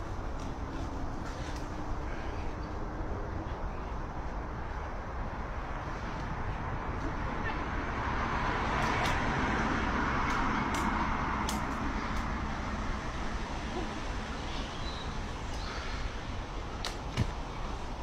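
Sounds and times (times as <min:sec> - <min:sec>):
road traffic rush: 0:00.0 - 0:18.0.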